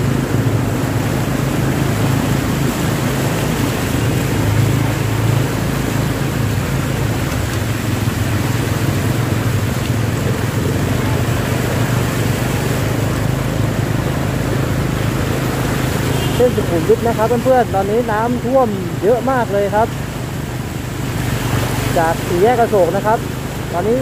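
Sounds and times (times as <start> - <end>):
road and water noise: 0.0 - 24.0
vehicle engine humming: 0.0 - 24.0.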